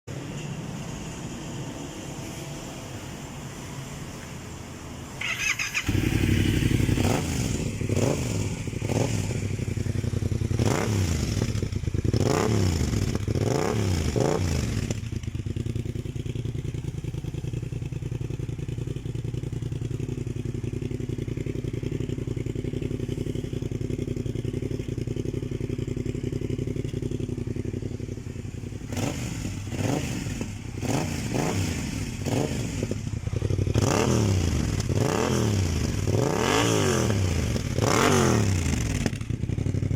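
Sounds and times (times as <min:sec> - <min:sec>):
motorcycle engine idling: 0:05.2 - 0:36.2, 0:37.1 - 0:39.9.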